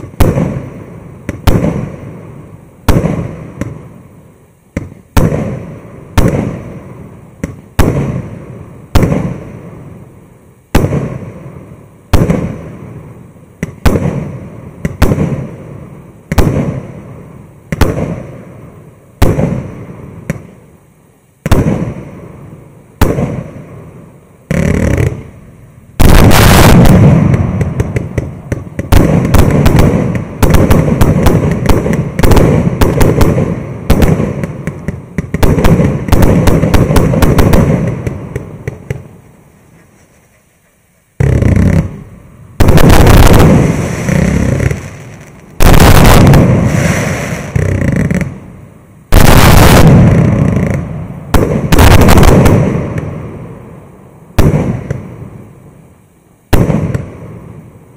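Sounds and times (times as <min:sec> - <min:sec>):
firework bangs and crackling: 0:00.0 - 0:55.8, 0:56.4 - 0:57.9.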